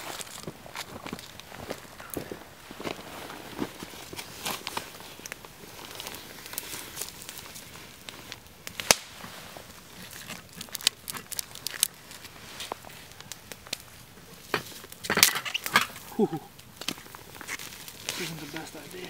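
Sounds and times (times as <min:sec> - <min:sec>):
handling clicks and crinkles: 0:00.0 - 0:19.0.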